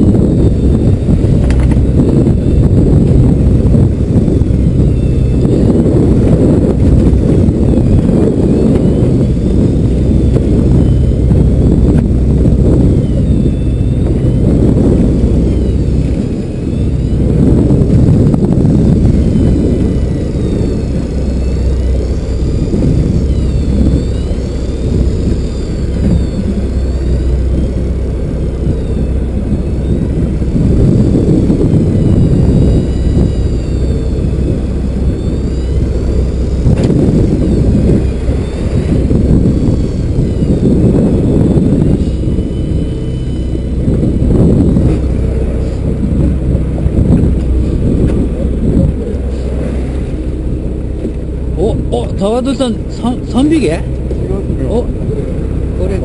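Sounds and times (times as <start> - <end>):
boat engine running low: 0.0 - 56.0
faint high whine: 0.0 - 56.0
wind gusting on microphone: 0.0 - 56.0.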